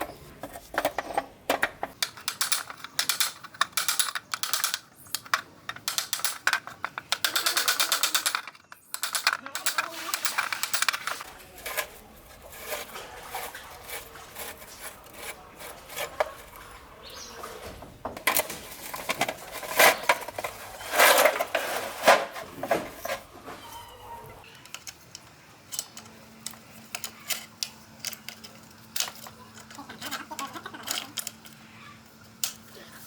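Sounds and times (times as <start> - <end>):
metal tools clinking: 0.0 - 17.2, 18.2 - 31.6.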